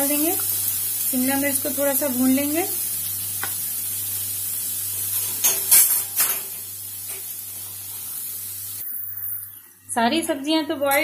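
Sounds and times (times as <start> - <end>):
vegetables sizzling in butter: 0.0 - 10.5.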